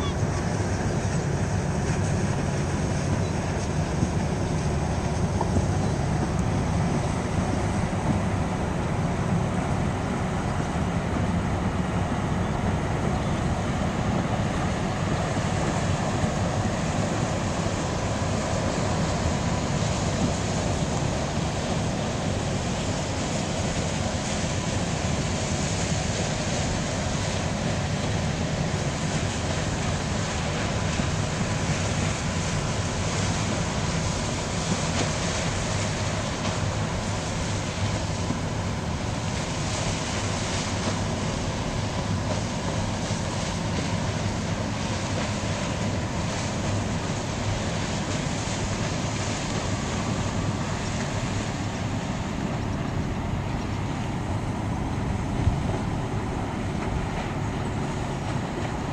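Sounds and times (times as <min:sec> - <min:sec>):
ship machinery rumble: 0:00.0 - 0:58.9
wind on microphone: 0:00.0 - 0:58.9.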